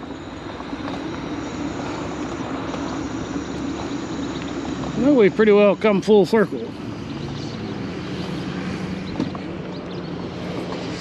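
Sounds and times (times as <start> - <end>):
scooter motor humming: 0.0 - 11.0.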